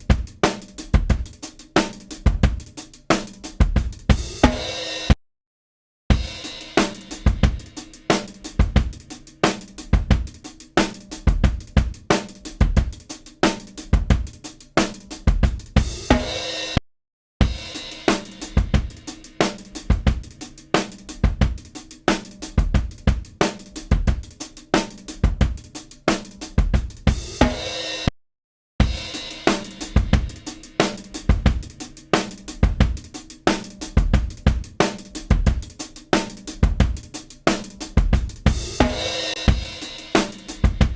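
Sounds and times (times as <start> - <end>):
acoustic drum kit groove: 0.0 - 5.2, 6.1 - 16.8, 17.4 - 28.1, 28.8 - 40.9.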